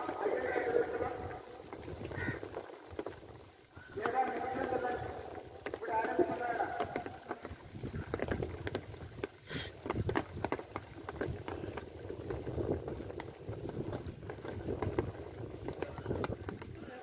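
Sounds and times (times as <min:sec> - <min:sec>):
lake water lapping on shore: 0:00.0 - 0:17.0.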